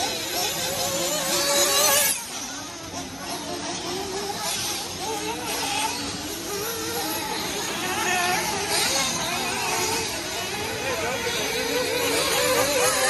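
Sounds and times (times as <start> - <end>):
model car engines buzzing: 0.0 - 13.0.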